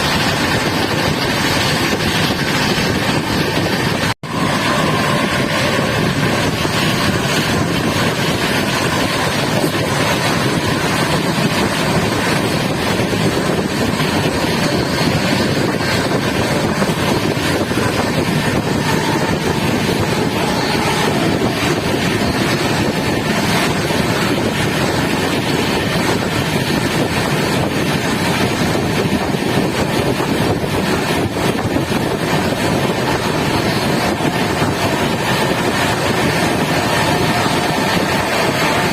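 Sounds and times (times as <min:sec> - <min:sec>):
train roaring at speed: 0:00.0 - 0:38.9.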